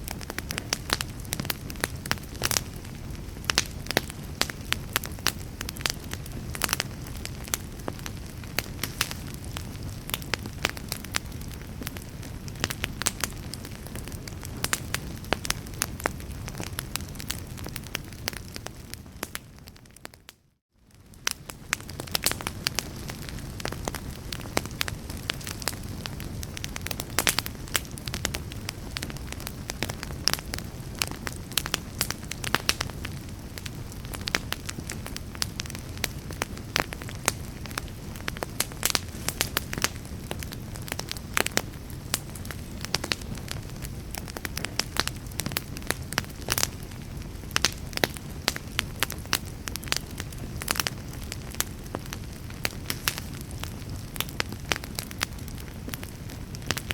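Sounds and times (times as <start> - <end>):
fire burning rush: 0.0 - 20.1, 20.9 - 56.9
fire pops and snaps: 0.0 - 56.9.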